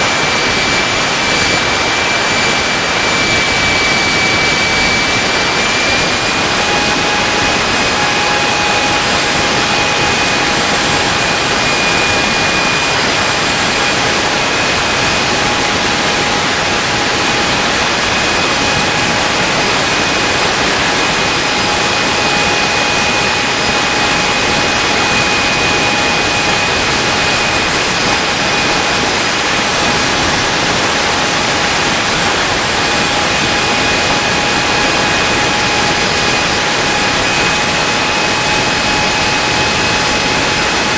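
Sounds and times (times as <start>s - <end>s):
high compressor whines: 0.0s - 40.9s
turbojet exhaust rush: 0.0s - 40.9s.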